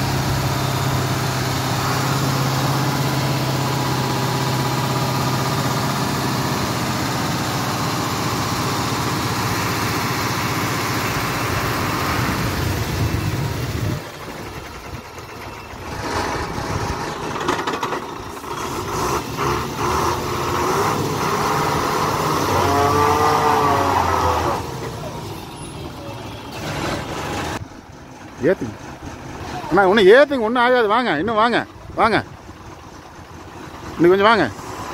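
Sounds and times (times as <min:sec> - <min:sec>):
lorry diesel engine running: 0:00.0 - 0:34.9.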